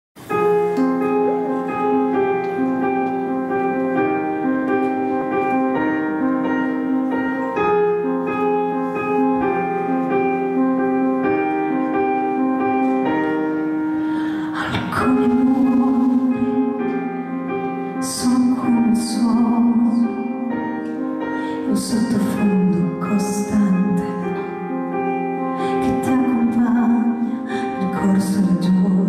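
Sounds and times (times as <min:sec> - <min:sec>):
piano playing slow ballad: 0:00.2 - 0:29.0.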